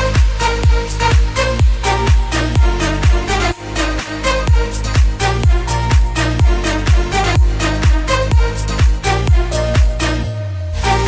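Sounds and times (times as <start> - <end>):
electronic dance music: 0.0 - 11.0
steady kick drum: 0.0 - 11.0.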